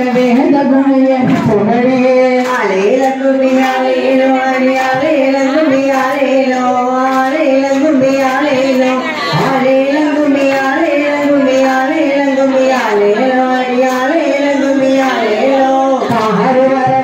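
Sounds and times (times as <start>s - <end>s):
faint handclaps: 0.0s - 17.0s
woman singing through loudspeaker: 0.0s - 17.0s.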